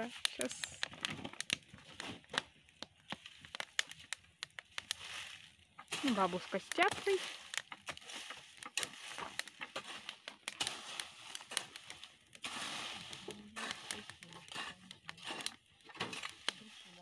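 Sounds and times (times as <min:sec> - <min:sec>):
wood fire crackling and popping: 0:00.0 - 0:17.0
hiss of flames: 0:03.1 - 0:17.0.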